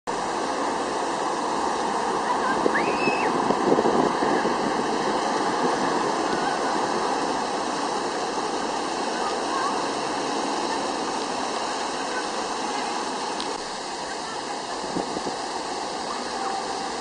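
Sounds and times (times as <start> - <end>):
fountain water splashing: 0.1 - 17.0.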